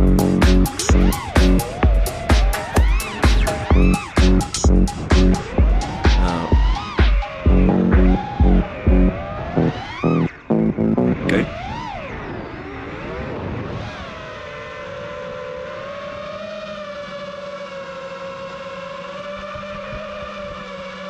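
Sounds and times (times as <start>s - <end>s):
drone motors and propellers whining: 0.0s - 21.0s.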